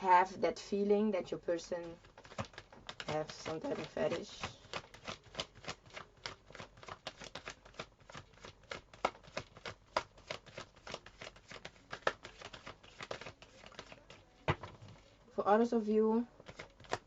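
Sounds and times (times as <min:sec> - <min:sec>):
cards being shuffled: 0:01.8 - 0:15.1, 0:16.4 - 0:17.0.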